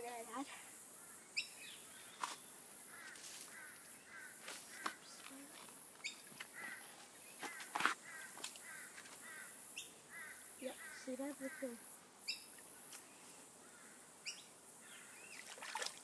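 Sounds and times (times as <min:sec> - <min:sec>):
short bird calls: 0:01.0 - 0:15.5.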